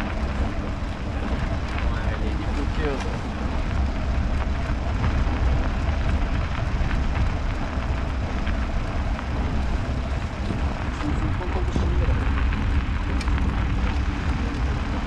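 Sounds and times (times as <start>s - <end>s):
bicycle tyre noise on snow: 0.0s - 15.0s
wind rumble on microphone: 0.0s - 15.0s.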